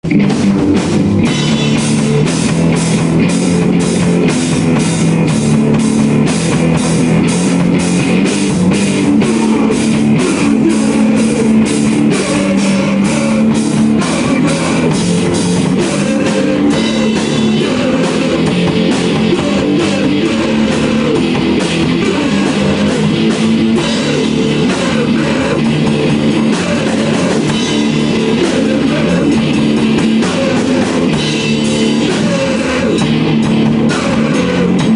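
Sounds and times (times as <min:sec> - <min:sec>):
drum kit beat: 0:00.0 - 0:34.9
electric guitar: 0:00.0 - 0:34.9.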